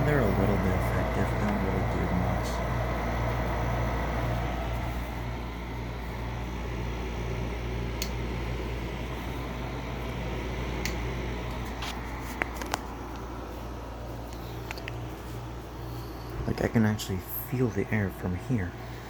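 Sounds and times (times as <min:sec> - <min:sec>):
air conditioner hum: 0:00.0 - 0:19.0.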